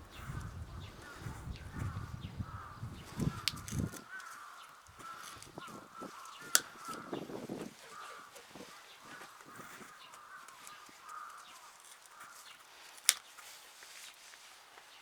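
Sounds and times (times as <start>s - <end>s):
crows cawing: 0.1s - 13.2s.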